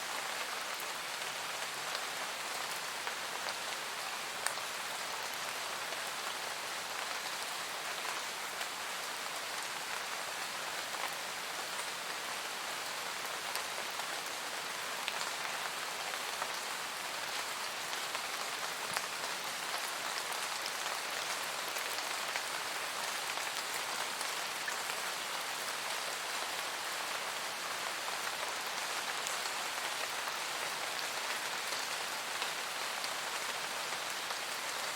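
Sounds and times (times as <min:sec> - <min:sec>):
steady rain in forest: 0:00.0 - 0:34.9.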